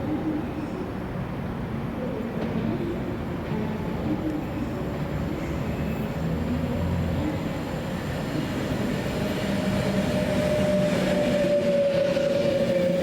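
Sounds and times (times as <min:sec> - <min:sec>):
electric train rumble and whine: 0:00.0 - 0:13.0.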